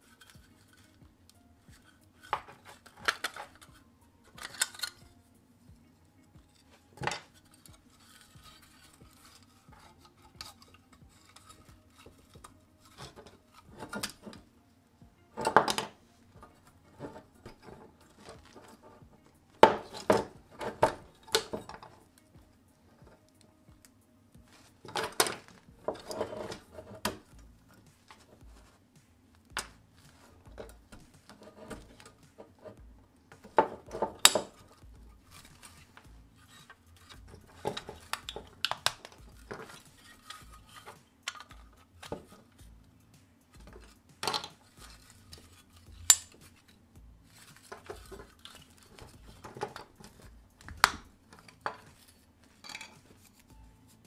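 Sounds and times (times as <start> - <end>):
model car parts clicking and rattling: 0.0 - 5.1, 6.4 - 14.5, 15.3 - 22.2, 24.5 - 28.8, 29.6 - 53.5.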